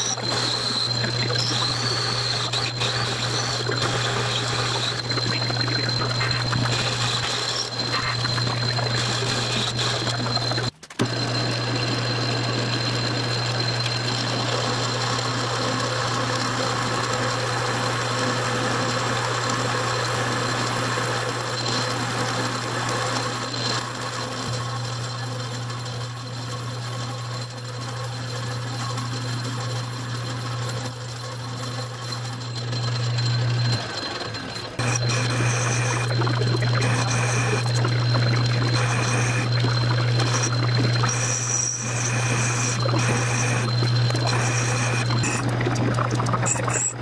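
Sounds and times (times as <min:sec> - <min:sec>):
thin high whine: 0:00.0 - 0:14.8, 0:21.3 - 0:47.0
boring bar cutting metal: 0:00.0 - 0:15.1, 0:20.7 - 0:47.0
lathe motor hum: 0:00.0 - 0:47.0.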